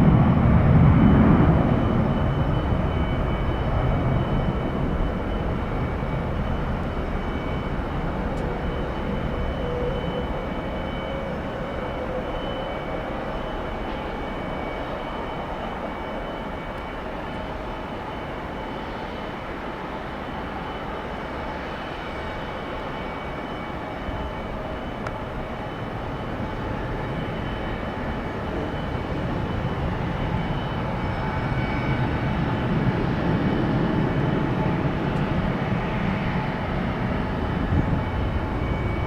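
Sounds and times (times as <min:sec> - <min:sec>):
jet engine rumble: 0:00.0 - 0:39.0.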